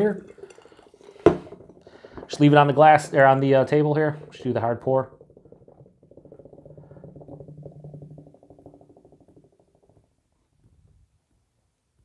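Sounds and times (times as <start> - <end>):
beer gurgling into a glass: 0.0 - 11.3.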